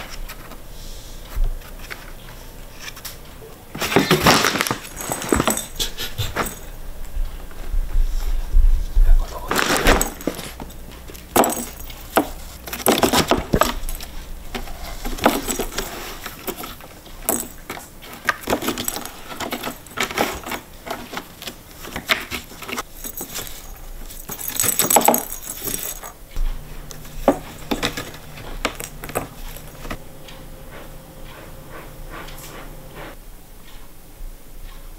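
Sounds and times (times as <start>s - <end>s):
cats scratching and rustling: 0.0s - 33.2s.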